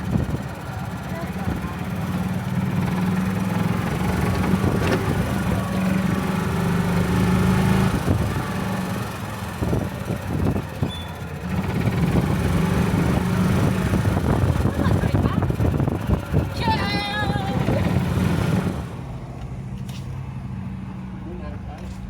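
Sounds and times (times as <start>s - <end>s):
golf cart motor hum: 0.0s - 22.0s.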